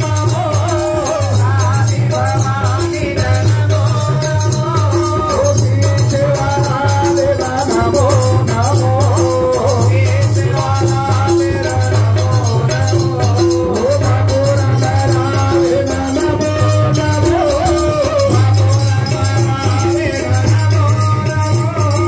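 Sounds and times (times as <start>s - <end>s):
person singing: 0.0s - 22.0s
small hand cymbals: 0.0s - 22.0s.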